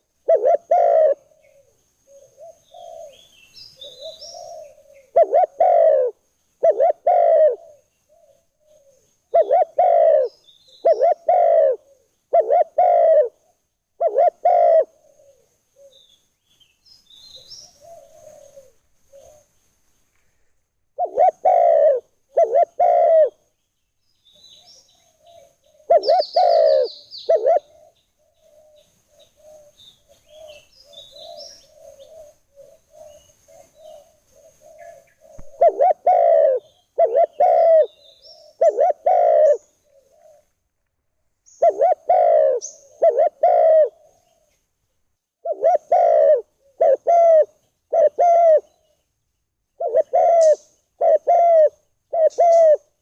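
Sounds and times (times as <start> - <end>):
small birds chirping: 0.0 - 13.4, 14.0 - 52.8
dove cooing: 0.0 - 16.1, 17.1 - 19.6, 21.0 - 23.5, 24.4 - 40.6, 41.5 - 44.6, 45.4 - 49.0, 49.8 - 53.0.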